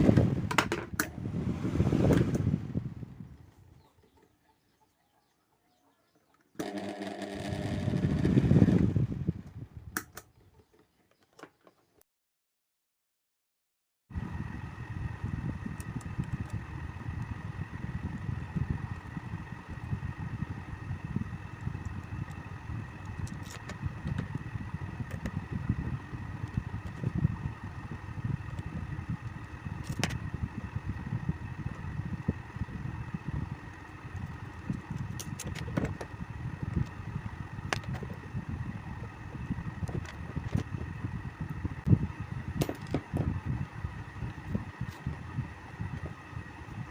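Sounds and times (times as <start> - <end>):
table fan motor rattling hum: 0.0 - 3.9, 6.5 - 9.9, 14.1 - 46.9.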